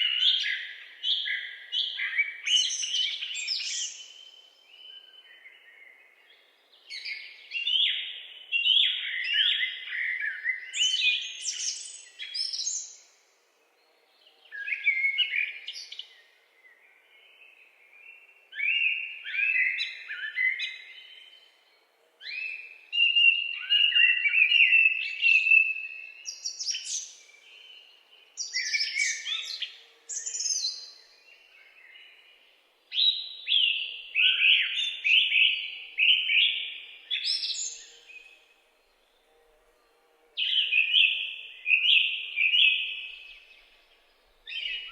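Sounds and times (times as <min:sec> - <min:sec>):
birds chirping and trilling: 0:00.0 - 0:44.9.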